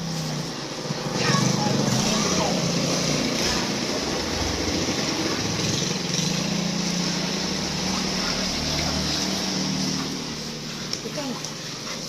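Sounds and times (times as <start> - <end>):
pressure washer motor running: 0.0 - 12.0
water spray hissing: 0.0 - 12.0.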